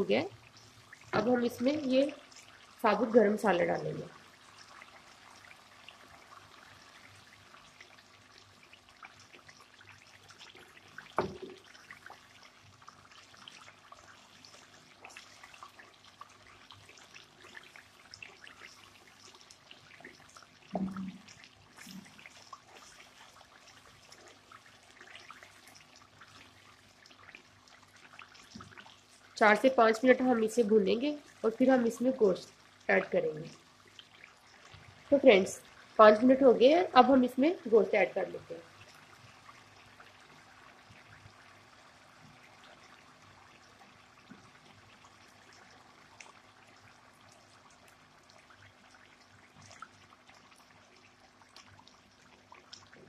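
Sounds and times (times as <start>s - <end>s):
sauce bubbling and sputtering: 0.2s - 53.0s.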